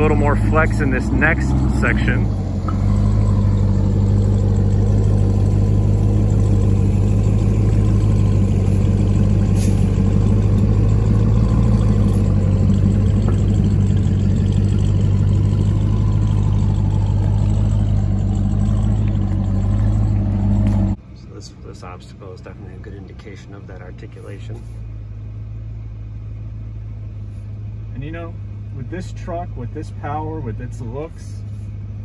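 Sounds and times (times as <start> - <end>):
truck engine running steadily: 0.0 - 32.0.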